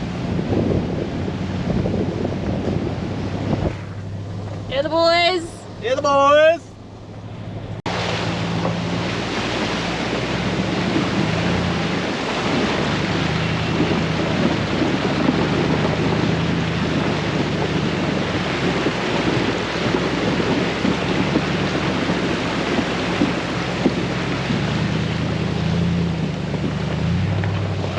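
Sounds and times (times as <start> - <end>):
vehicle engine humming: 0.0 - 27.9
wind and road noise: 0.0 - 27.9.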